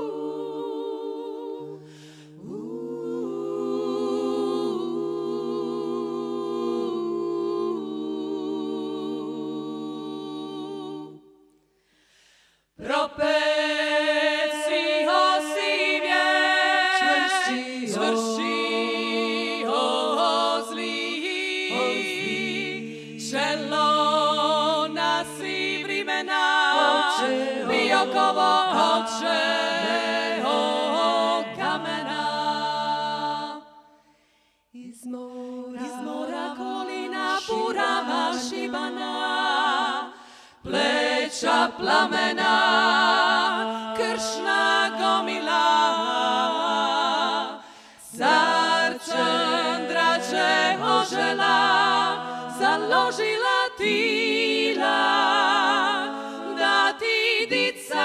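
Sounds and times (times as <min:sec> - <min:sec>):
women singing a cappella harmony: 0:00.0 - 0:11.6, 0:12.8 - 0:58.0.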